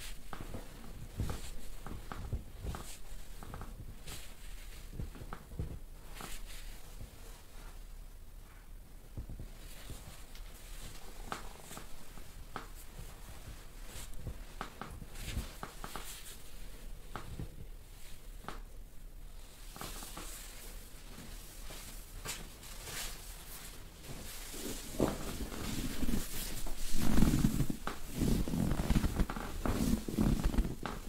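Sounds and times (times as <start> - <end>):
fabric rustling: 0.0 - 31.0.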